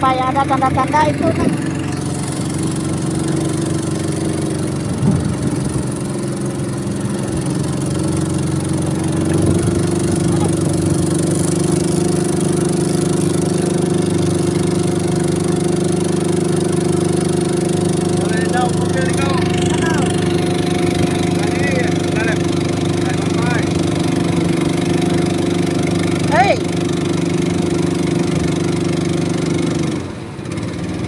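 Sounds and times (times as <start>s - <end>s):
small boat engine running: 0.0s - 31.0s.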